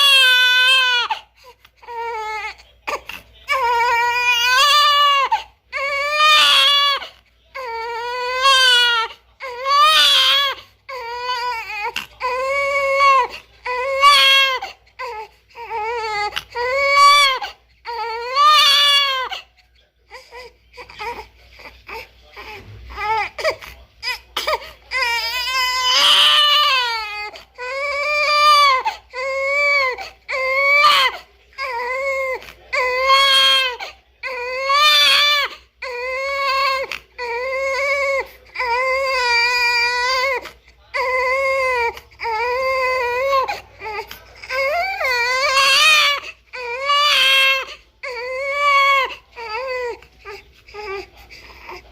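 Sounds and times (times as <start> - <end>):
newborn baby crying: 0.0 - 51.9.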